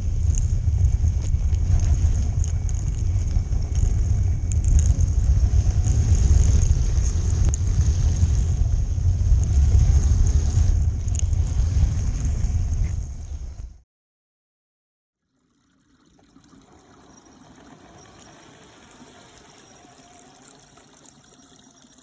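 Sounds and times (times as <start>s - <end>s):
model train rumble and whine: 0.0s - 12.8s, 16.4s - 21.4s.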